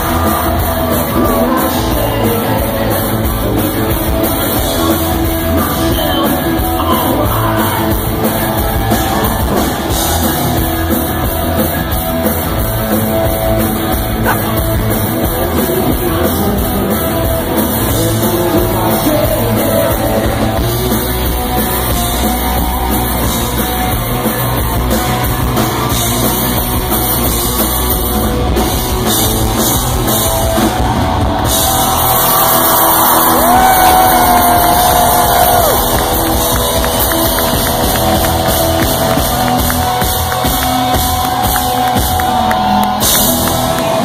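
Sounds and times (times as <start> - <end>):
live rock band playing: 0.0 - 44.0.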